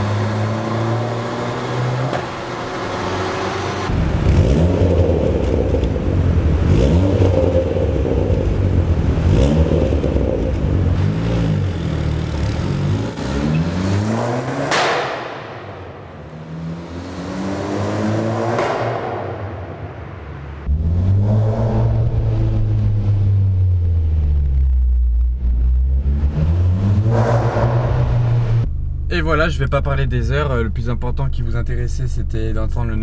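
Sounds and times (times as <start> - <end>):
car engine accelerating: 0.0 - 31.7.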